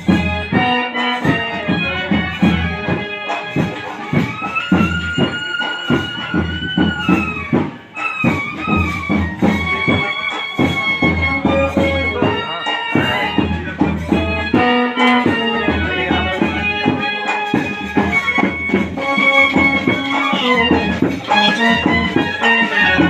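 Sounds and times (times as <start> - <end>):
loud instrumental music: 0.0 - 23.0
regular drum beat: 0.0 - 23.0.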